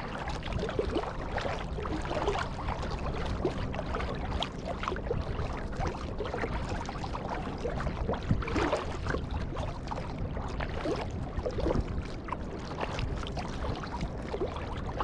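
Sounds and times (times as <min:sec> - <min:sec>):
low water rush: 0:00.0 - 0:15.0
water splashing around kayak: 0:00.0 - 0:15.0.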